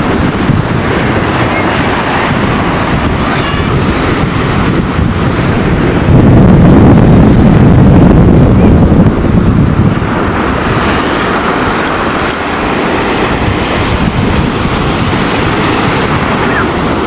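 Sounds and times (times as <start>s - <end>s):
sea surf breaking on sand: 0.0s - 17.0s
wind buffeting microphone: 0.0s - 17.0s.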